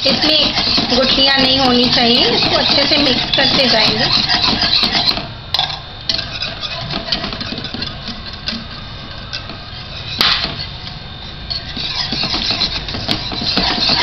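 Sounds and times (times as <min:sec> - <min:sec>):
whisk scraping and knocking a pan: 0:00.0 - 0:14.0.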